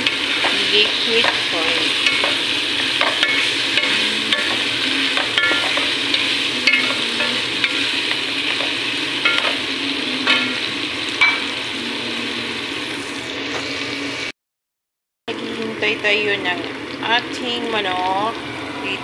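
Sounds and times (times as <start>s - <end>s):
food sizzling in frying pan: 0.0s - 14.3s, 15.3s - 19.0s.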